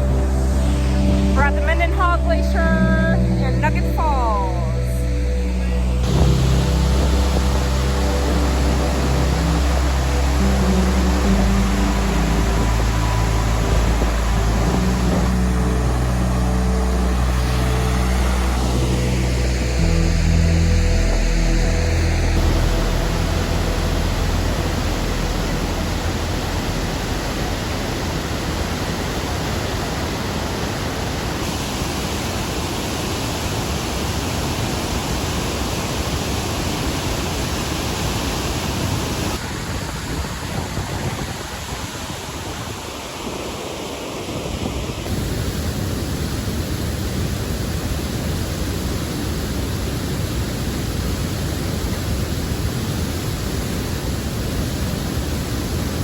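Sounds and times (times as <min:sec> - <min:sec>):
waterfall rushing: 0:05.0 - 0:56.0.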